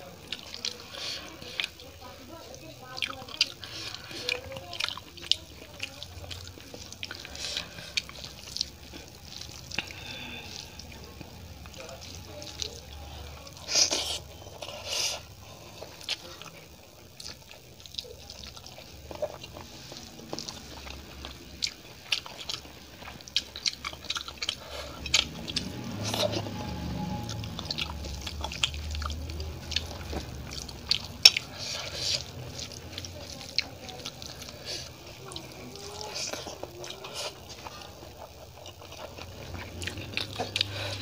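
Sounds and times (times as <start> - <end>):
chewing: 0.0 - 41.0.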